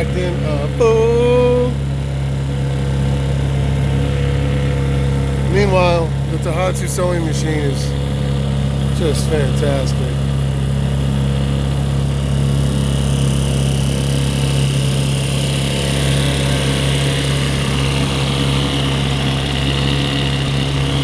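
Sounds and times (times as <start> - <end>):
outboard motor humming: 0.0 - 21.0.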